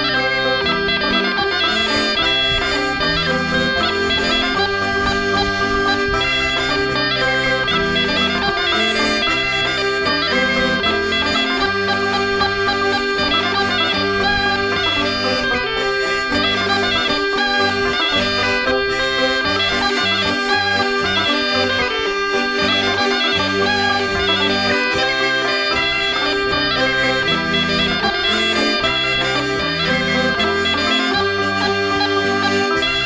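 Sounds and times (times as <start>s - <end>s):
banjo: 0.0s - 33.0s
button accordion: 0.0s - 33.0s
folk dance tune on bagpipes: 0.0s - 33.0s.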